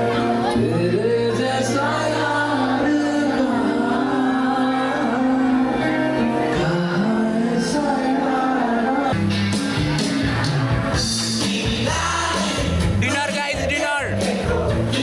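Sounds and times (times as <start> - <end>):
song with sung melody: 0.0 - 15.0.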